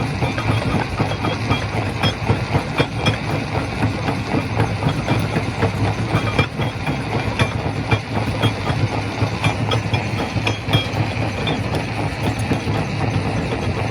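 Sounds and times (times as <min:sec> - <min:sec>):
rock crusher drone: 0:00.0 - 0:13.9.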